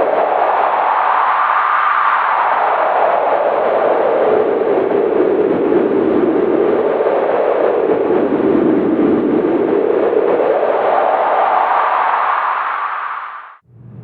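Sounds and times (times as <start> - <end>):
strong wind howling: 0.0 - 14.0.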